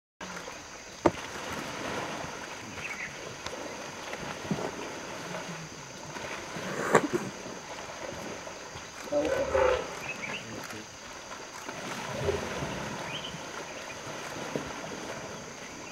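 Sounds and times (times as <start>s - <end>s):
elephant splashing in water: 0.2s - 15.9s
moving water: 0.2s - 15.9s.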